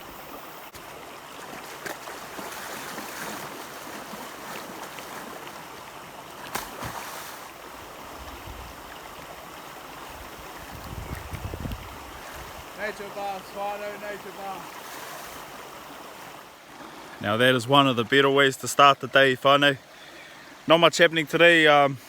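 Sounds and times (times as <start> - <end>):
river water running: 0.0 - 22.0.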